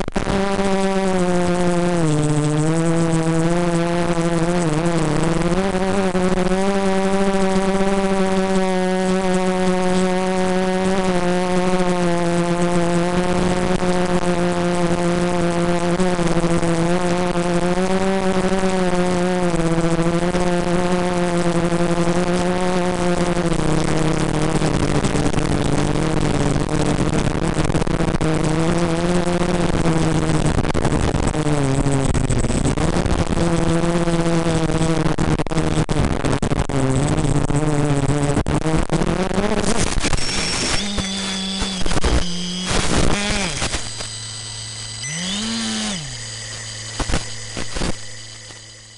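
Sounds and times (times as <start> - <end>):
drone propellers buzzing: 0.0 - 35.9, 37.0 - 48.9.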